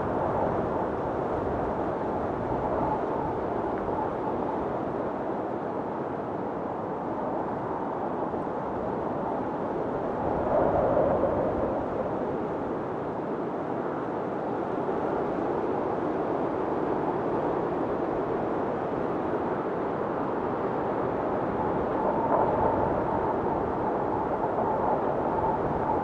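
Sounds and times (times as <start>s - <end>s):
blizzard wind howling: 0.0s - 26.0s.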